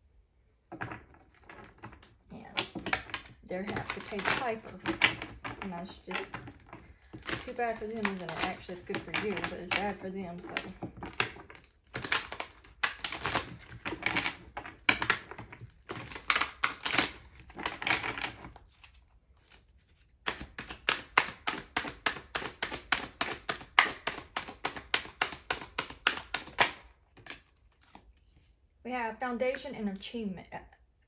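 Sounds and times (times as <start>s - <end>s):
cards being shuffled by hand: 0.7s - 28.6s.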